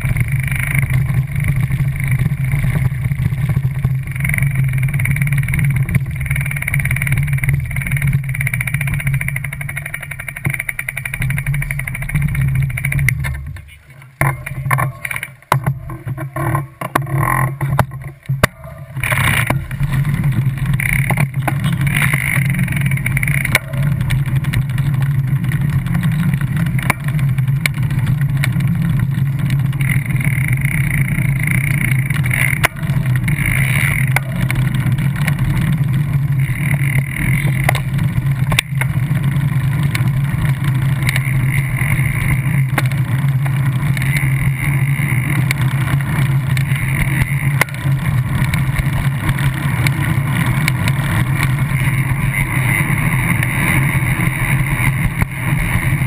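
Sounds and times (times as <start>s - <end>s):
bicycle rolling rumble: 0.0s - 56.0s.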